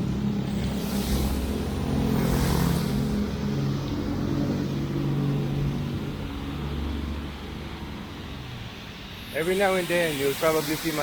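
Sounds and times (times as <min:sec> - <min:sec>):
vehicle engine humming: 0:00.0 - 0:10.8
street noise: 0:00.0 - 0:11.0.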